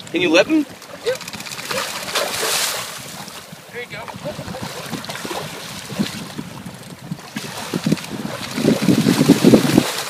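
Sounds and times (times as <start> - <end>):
wind on microphone: 0.0 - 10.0
fish splashing in shallow water: 0.6 - 10.0.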